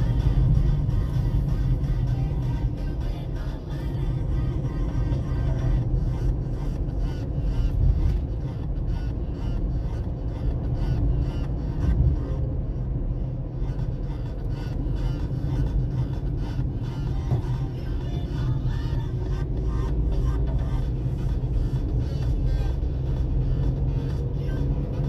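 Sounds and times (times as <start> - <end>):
car driving rumble: 0.0 - 25.0
music over car stereo: 0.0 - 25.0.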